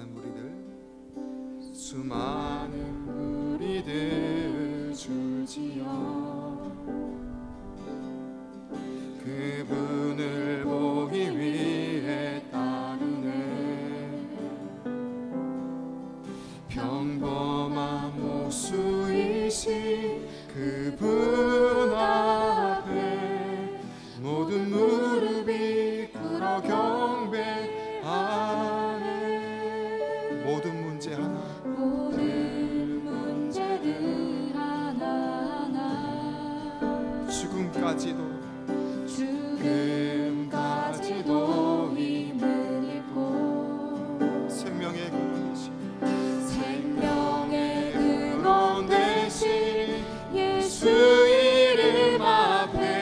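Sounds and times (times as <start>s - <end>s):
man singing: 0.0s - 0.7s, 1.7s - 6.8s, 9.2s - 14.5s, 16.6s - 34.2s, 35.9s - 38.4s, 39.1s - 43.3s, 44.5s - 53.0s
strummed acoustic guitar: 0.0s - 53.0s.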